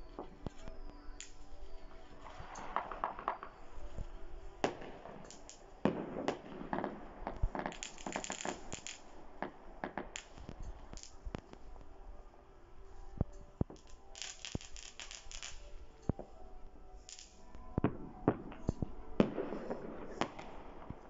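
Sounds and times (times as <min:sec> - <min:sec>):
fireworks bangs: 0:00.0 - 0:11.8, 0:13.6 - 0:16.4, 0:17.0 - 0:21.0
fireworks crackling: 0:00.0 - 0:21.0.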